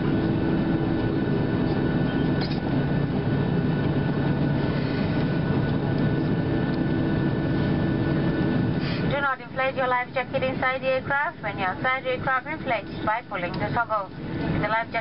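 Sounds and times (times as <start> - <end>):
airplane cabin rumble: 0.0 - 15.0
steady hum: 0.0 - 15.0.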